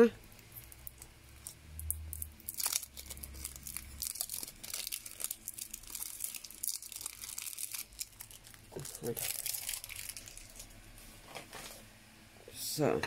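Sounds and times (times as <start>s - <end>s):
packaging crinkling and tearing: 0.2s - 11.8s.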